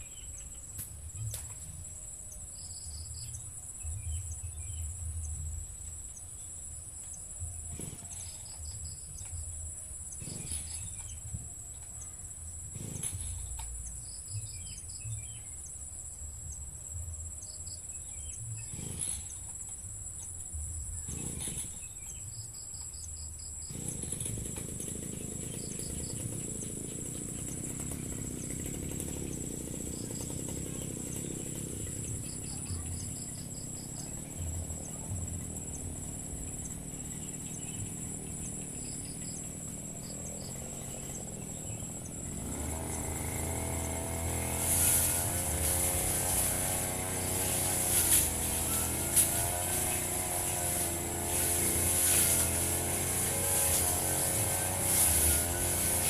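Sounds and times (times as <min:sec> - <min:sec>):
insects trilling and chirping: 0:00.0 - 0:56.0.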